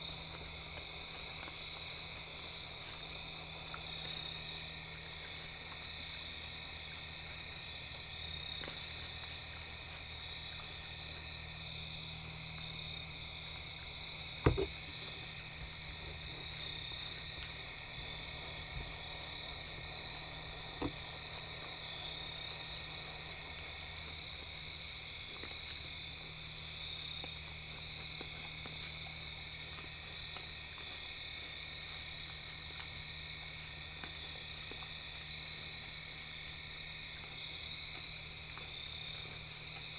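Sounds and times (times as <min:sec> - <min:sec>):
frogs croaking: 0:00.0 - 0:39.9
insects trilling: 0:00.0 - 0:39.9.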